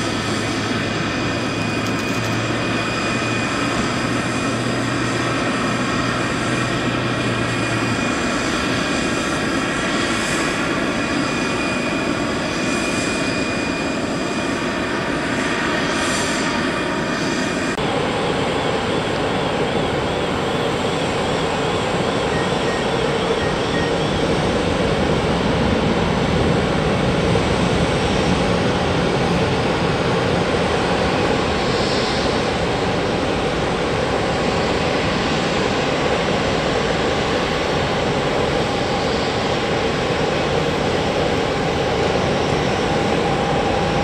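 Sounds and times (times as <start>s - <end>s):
jet engines running: 0.0s - 44.0s.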